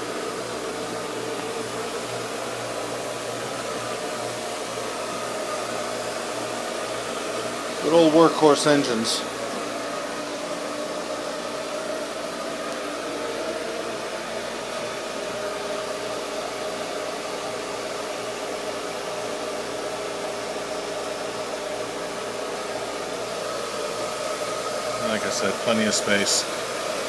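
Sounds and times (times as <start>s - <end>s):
engine room machinery hum: 0.0s - 27.0s.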